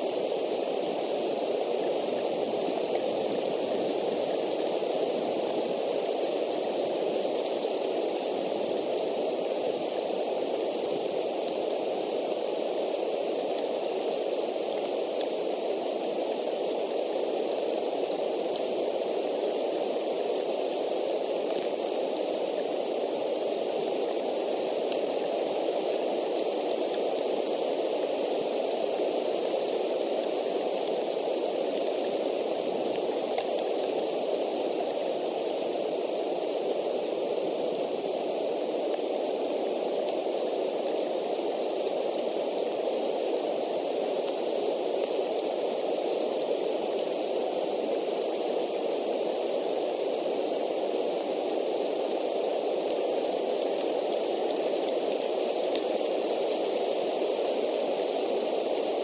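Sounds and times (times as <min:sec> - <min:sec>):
faint ticks of raindrops: 0:00.0 - 0:59.0
steady rain hiss: 0:00.0 - 0:59.0.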